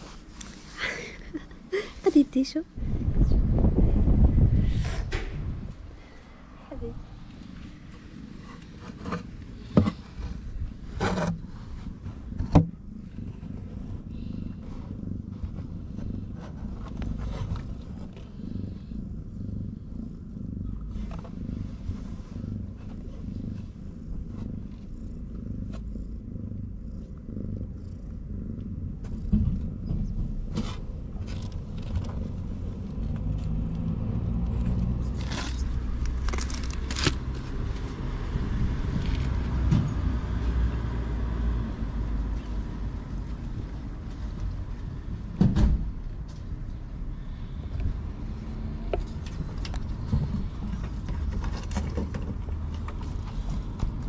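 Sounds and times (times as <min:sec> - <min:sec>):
cat purring: 0:00.0 - 0:45.4, 0:46.0 - 0:54.0.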